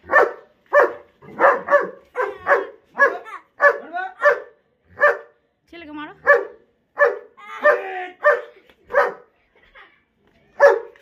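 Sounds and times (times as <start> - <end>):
dog barking: 0.0 - 5.4, 6.2 - 9.3, 10.6 - 11.0.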